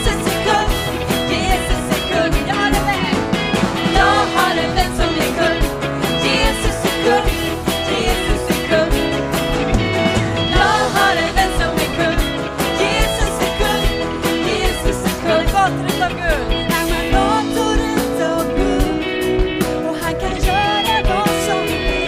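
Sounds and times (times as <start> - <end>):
people singing: 0.0 - 16.1, 16.7 - 22.0
live band playing upbeat song: 0.0 - 22.0.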